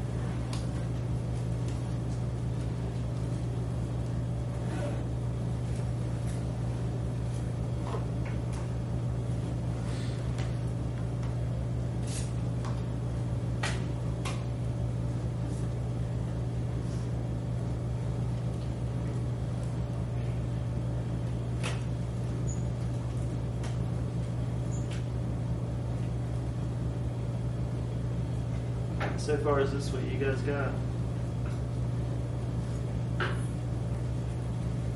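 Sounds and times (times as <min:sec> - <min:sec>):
machinery hum: 0:00.0 - 0:34.9.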